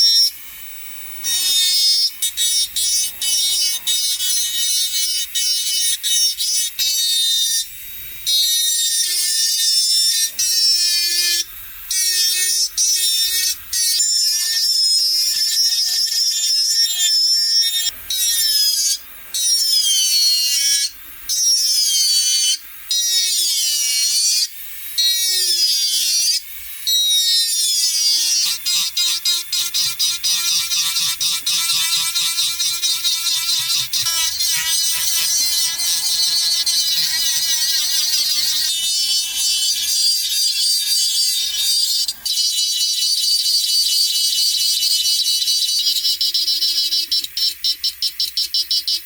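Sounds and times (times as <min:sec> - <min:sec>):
rotary power tool whining: 0:01.1 - 0:42.9.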